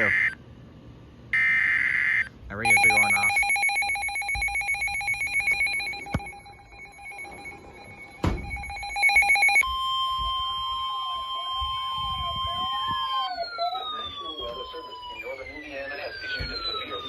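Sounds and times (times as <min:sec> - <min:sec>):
rapid trilling alarm: 0:01.4 - 0:17.0
steady high alert tone: 0:02.6 - 0:17.0
warbling up-and-down tone: 0:02.6 - 0:17.0.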